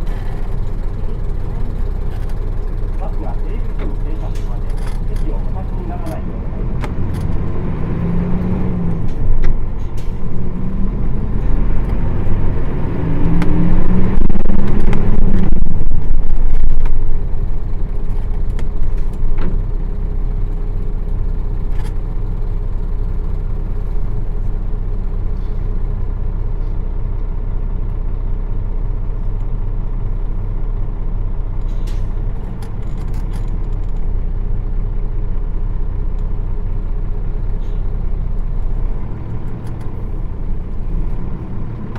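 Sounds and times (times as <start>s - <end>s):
bus diesel engine: 0.0s - 41.9s.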